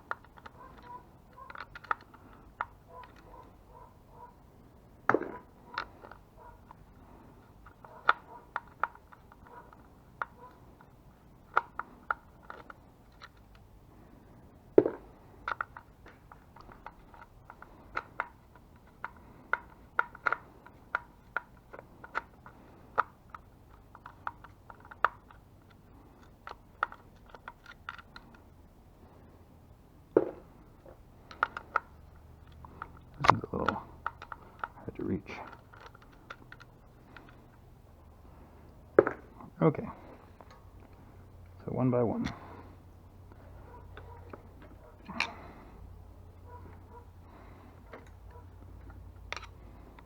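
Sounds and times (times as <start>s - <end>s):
hand tools clicking and tapping: 0.0s - 4.3s, 5.1s - 13.7s, 14.8s - 28.5s, 30.1s - 37.6s, 43.3s - 45.7s, 46.4s - 50.0s.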